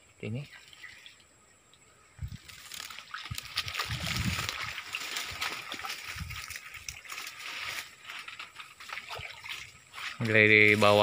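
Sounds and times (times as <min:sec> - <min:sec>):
rustling of palm fronds and brush: 0:02.2 - 0:11.0.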